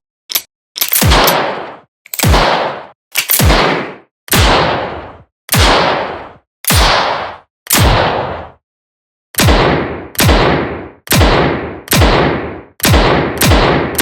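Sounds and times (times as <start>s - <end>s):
revolver gunshots: 0.9s - 8.6s, 9.4s - 14.0s.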